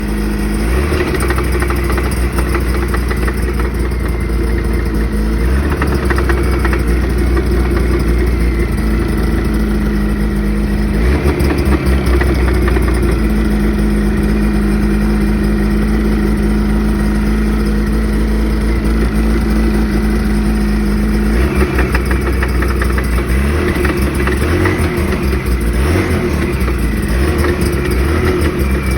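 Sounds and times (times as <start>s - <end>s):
engine knock: 0.0s - 28.9s
snowmobile engine running: 0.0s - 28.9s.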